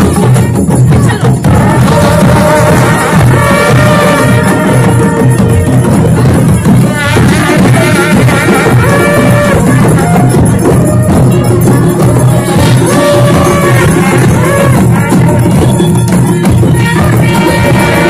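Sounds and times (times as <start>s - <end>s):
drums beating: 0.0s - 18.0s
wind instruments holding notes: 0.0s - 18.0s.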